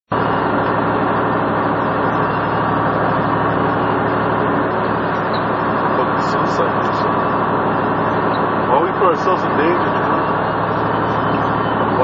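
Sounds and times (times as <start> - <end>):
road and tyre noise: 0.1 - 12.0
truck engine running: 0.1 - 12.0.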